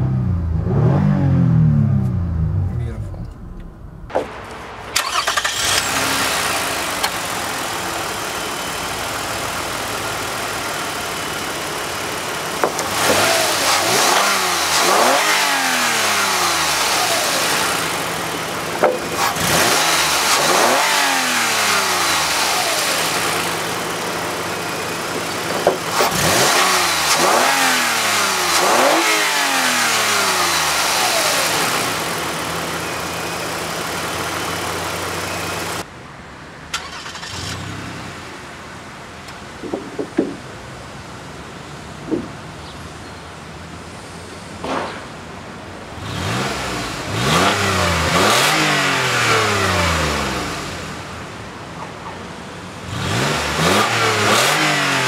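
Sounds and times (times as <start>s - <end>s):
car engine idling and revving: 0.0s - 36.0s, 36.7s - 55.0s.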